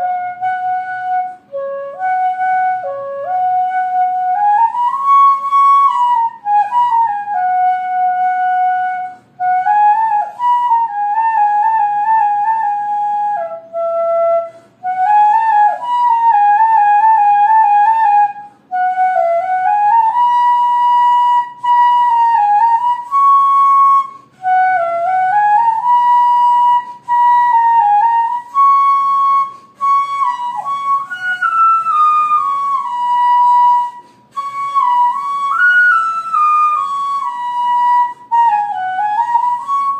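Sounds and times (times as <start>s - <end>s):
solo flute melody: 0.0s - 39.9s.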